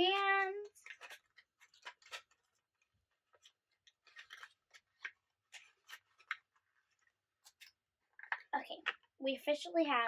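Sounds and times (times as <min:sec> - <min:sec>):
plastic bags crinkling: 0:00.0 - 0:08.6.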